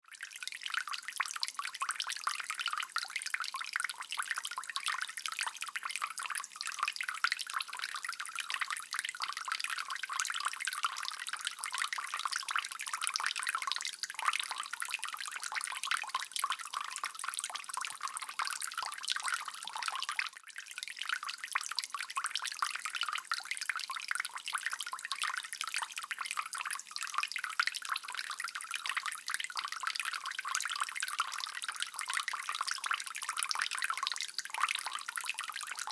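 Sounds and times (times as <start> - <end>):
water dripping: 0.1 - 35.9.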